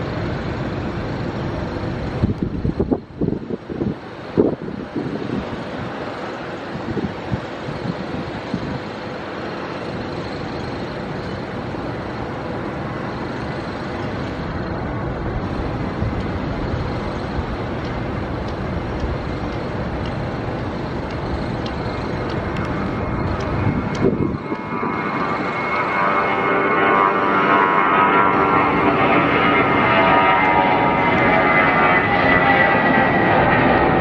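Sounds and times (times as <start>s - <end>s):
jet engine roar with whine: 0.0s - 34.0s.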